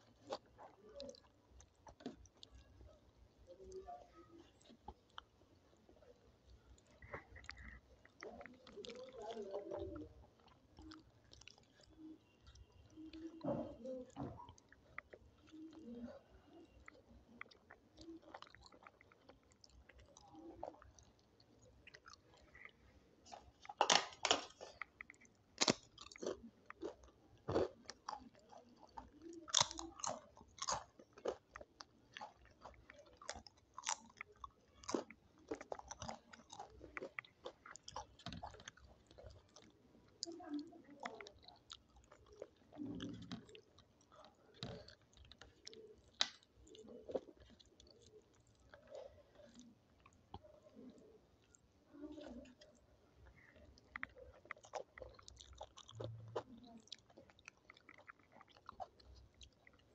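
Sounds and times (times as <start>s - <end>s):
crunching of crisp food: 0.0s - 2.9s, 3.5s - 59.9s
moist chewing: 0.0s - 59.9s.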